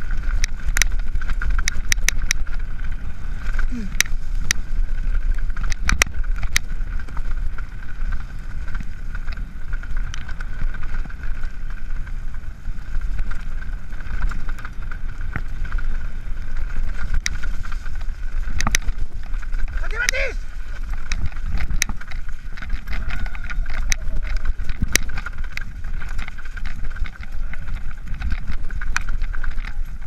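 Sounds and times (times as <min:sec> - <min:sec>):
bike clicks and knocks: 0:00.0 - 0:30.0
bike tyre rumble on dirt: 0:00.0 - 0:30.0
wind buffeting on microphone: 0:00.0 - 0:30.0.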